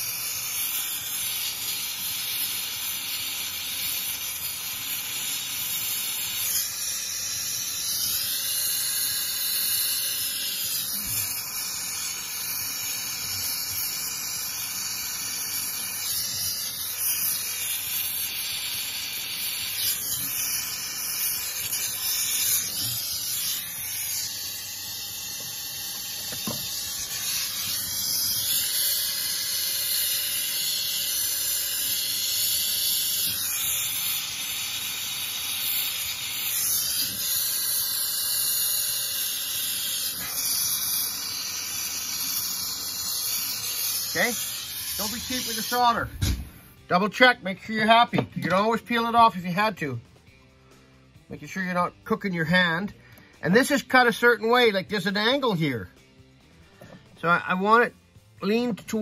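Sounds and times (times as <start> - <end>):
torch flame hissing: 0.0 - 50.0.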